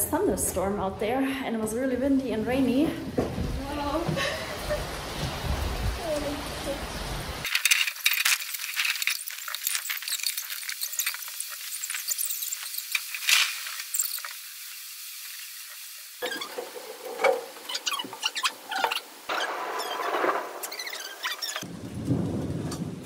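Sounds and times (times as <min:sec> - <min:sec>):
rain hiss and patter: 0:02.4 - 0:23.0.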